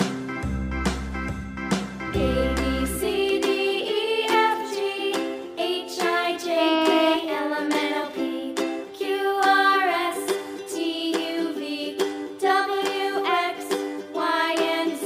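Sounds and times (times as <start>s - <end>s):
light song with steady beat: 0.0s - 15.0s.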